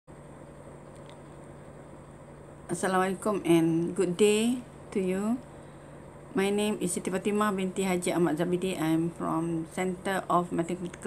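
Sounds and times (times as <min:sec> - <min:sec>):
faint hum: 0:00.1 - 0:11.0.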